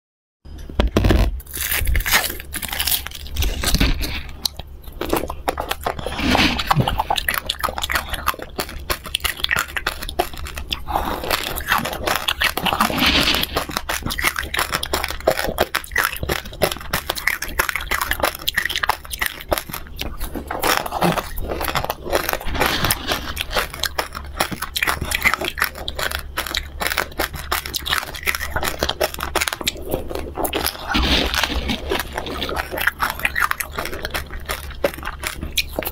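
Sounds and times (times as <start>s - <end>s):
crunchy chewing: 0.6s - 35.9s.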